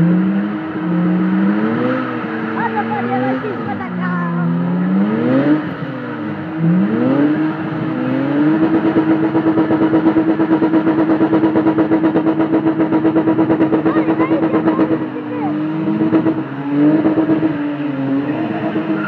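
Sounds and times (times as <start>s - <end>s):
car engines revving hard: 0.0s - 19.0s.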